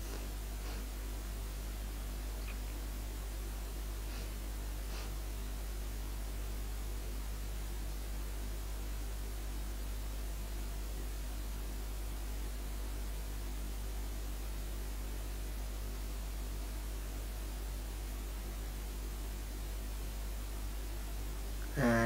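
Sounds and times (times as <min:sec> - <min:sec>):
constant hiss: 0:00.0 - 0:22.0
low electrical hum: 0:00.0 - 0:22.0.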